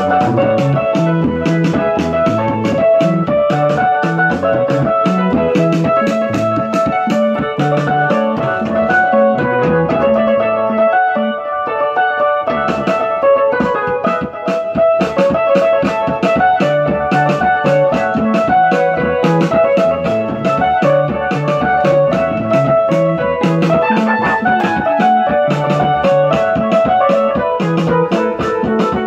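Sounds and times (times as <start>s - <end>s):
electronic keyboard piano: 0.0s - 29.0s.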